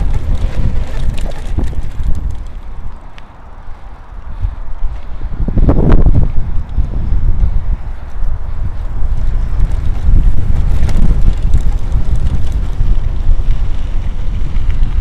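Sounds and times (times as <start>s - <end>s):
bike clicks and rattles: 0.0s - 5.3s, 7.9s - 15.0s
wind buffeting microphone: 0.0s - 15.0s.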